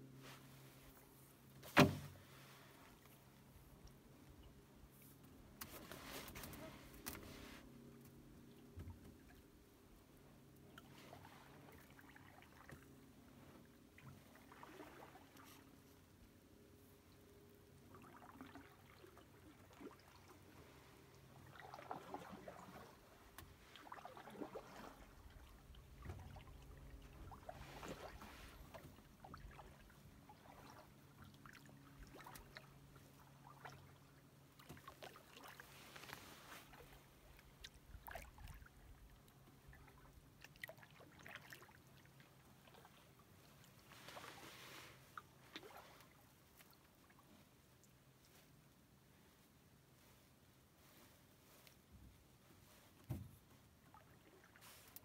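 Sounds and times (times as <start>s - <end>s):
paddle swishing in water: 0.0s - 8.0s, 10.6s - 16.2s, 17.8s - 55.0s.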